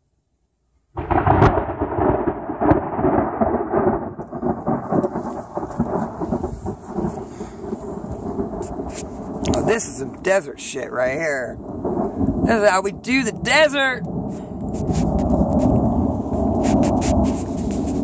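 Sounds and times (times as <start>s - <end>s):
heavy rainstorm: 1.0s - 18.0s.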